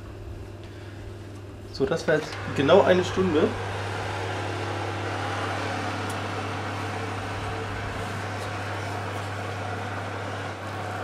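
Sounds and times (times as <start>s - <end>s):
fan oven humming: 0.0s - 11.0s.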